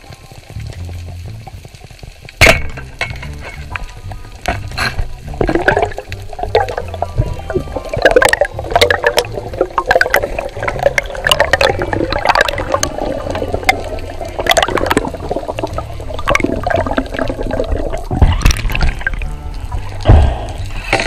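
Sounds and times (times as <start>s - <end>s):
sharp crackling clicks: 0.0s - 21.0s
underwater water rushing: 0.0s - 21.0s.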